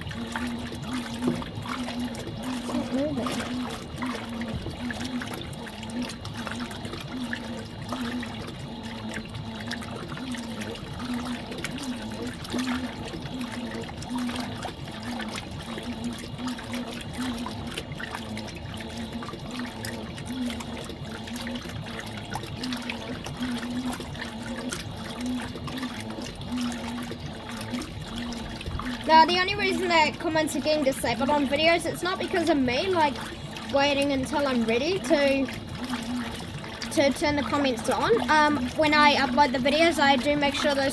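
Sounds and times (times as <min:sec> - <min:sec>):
washing machine motor hum: 0:00.0 - 0:40.9
water sloshing in washing machine: 0:00.0 - 0:40.9.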